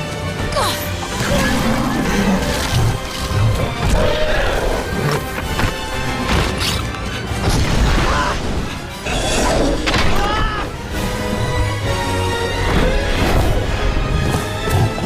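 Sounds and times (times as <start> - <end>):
orchestral film music: 0.0 - 15.0.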